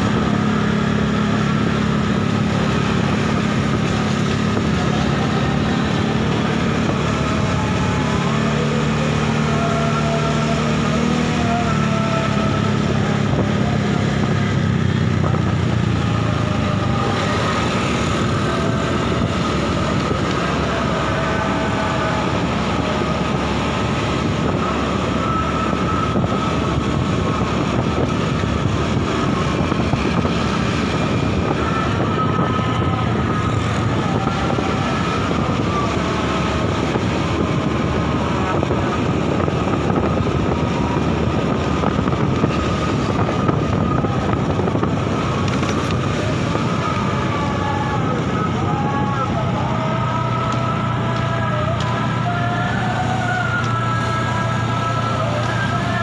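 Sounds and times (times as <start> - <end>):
motorcycle engine: 0.0 - 56.0
wind rushing over microphone: 0.0 - 56.0.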